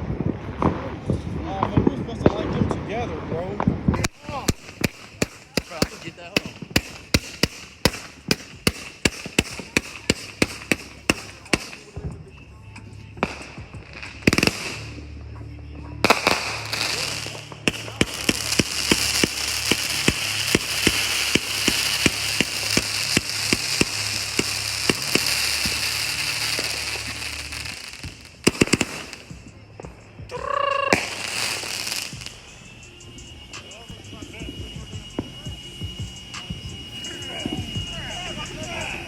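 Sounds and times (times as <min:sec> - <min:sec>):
crackling hiss: 0:00.0 - 0:39.0
firework bangs: 0:00.0 - 0:39.0
fireworks cracking: 0:00.0 - 0:39.0.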